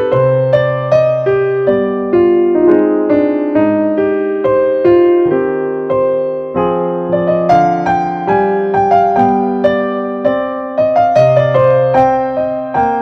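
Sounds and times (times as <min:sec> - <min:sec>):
electric piano melody: 0:00.0 - 0:13.0.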